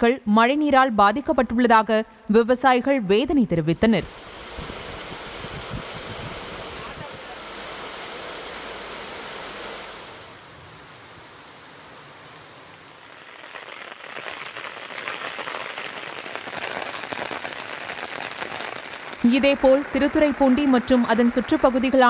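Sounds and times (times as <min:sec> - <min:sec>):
heavy rain: 0:03.8 - 0:22.0.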